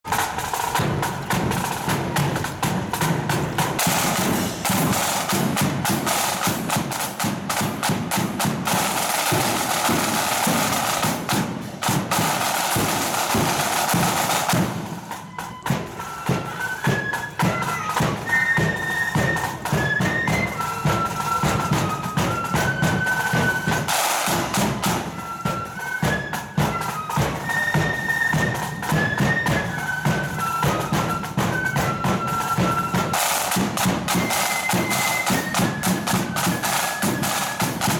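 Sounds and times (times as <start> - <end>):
flutes playing marching tune: 0.0 - 37.9
side drums playing: 0.0 - 37.9.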